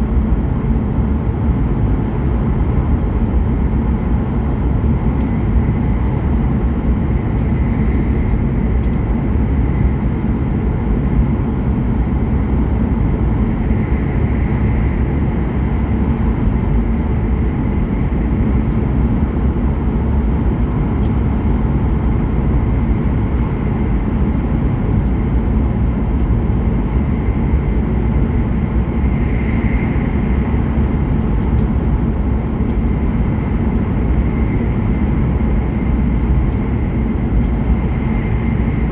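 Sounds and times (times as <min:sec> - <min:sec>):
train rumble inside cabin: 0:00.0 - 0:38.9.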